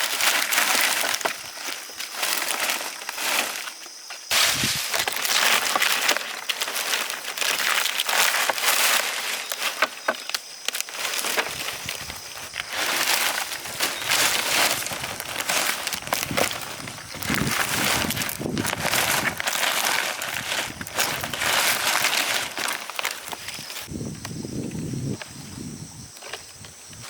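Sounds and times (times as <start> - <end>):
dry rice stalks rustling: 0.0 - 24.4.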